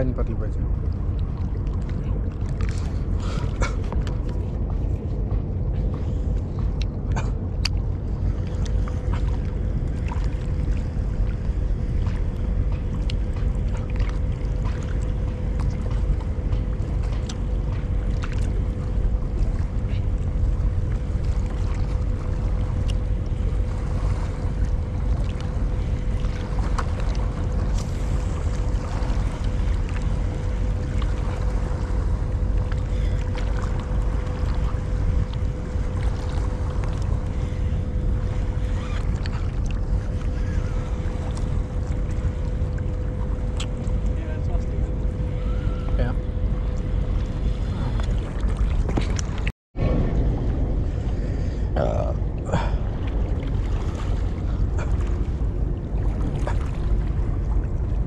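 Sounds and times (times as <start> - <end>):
boat engine rumble: 0.0 - 58.0.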